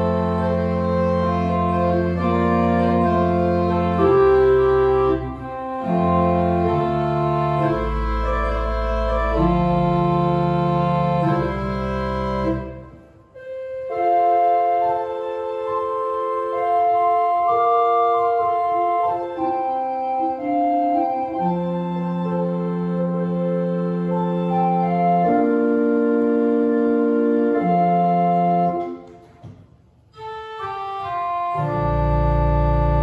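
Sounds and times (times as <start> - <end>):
pipe organ chords: 0.0 - 33.0.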